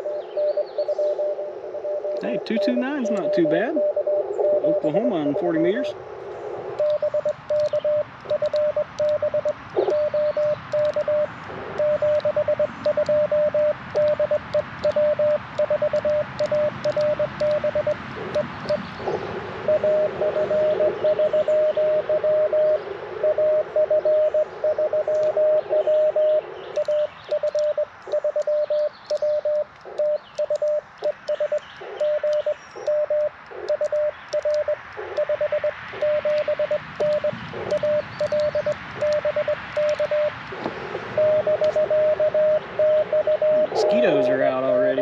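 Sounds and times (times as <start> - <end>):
morse code tone: 0.0 - 5.8, 6.8 - 45.0
faint lower morse signal: 0.0 - 6.0, 6.6 - 45.0
receiver hiss: 0.0 - 45.0.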